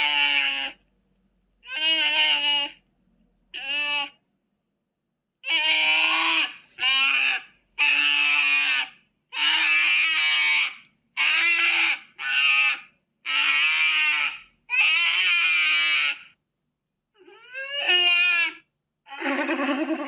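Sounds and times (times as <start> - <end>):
high wavering bleat-like cries: 0.0 - 0.8, 1.6 - 2.8, 3.5 - 4.2, 5.4 - 16.4, 17.2 - 20.0.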